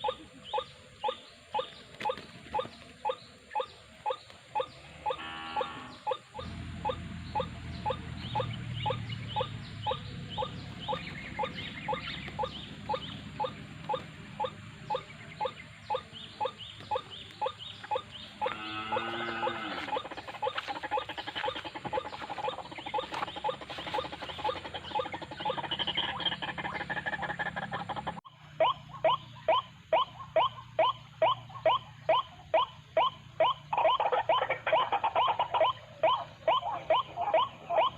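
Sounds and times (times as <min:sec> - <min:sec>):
harsh complex bird call: 0:00.0 - 0:37.9
waterhens calling: 0:00.0 - 0:37.9.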